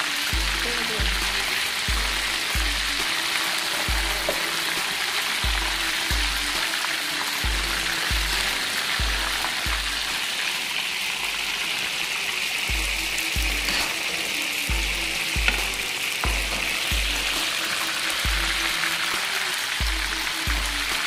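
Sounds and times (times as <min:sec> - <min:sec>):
background music with bass beat: 0:00.0 - 0:10.3, 0:12.7 - 0:21.0
fish sizzling in hot oil: 0:00.0 - 0:21.0.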